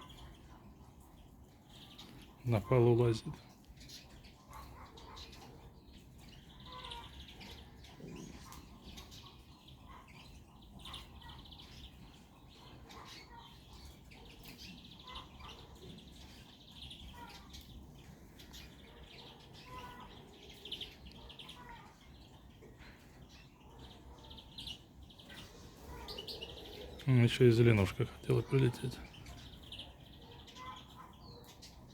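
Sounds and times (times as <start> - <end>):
finches chirping and twittering: 0.0 - 31.9.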